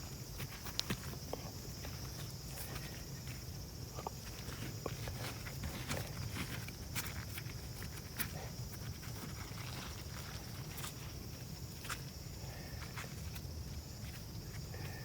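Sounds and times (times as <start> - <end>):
rustling of soil and potatoes: 0.0 - 15.0.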